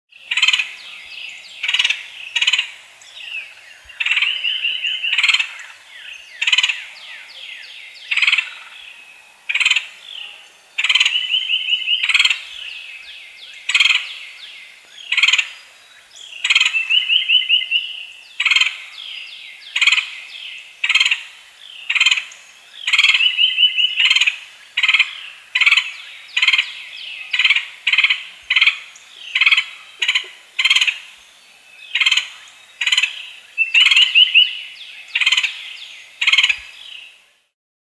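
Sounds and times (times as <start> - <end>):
woodpecker trilled call: 0.2 - 8.9, 9.5 - 14.4, 15.0 - 15.6, 16.2 - 31.2, 31.8 - 37.1
woodpecker harsh calls: 0.2 - 14.4, 15.0 - 15.6, 16.2 - 31.2, 31.8 - 37.1.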